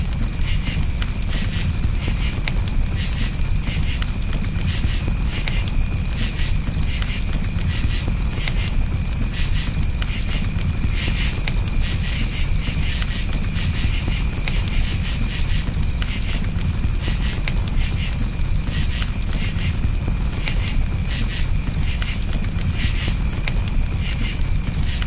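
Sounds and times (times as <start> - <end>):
campfire crackling: 0.0 - 25.0
crickets chirping: 0.0 - 25.0.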